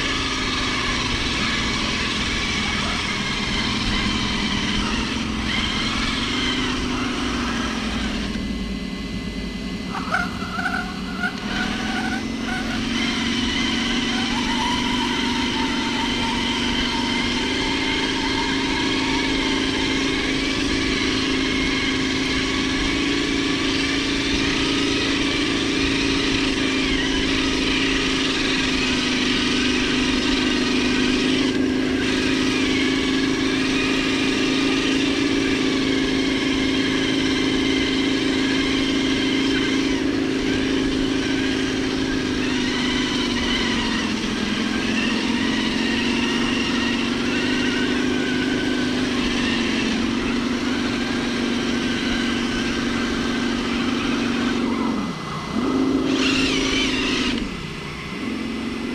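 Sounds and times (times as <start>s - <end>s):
electric motor and gearbox whining: 0.0s - 58.9s.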